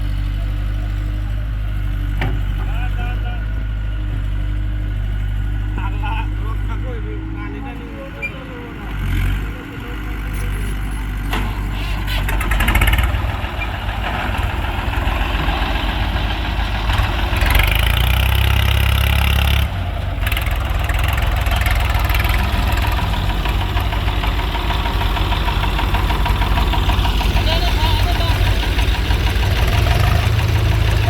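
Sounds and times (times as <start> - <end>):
diesel engine chugging: 0.0 - 31.0.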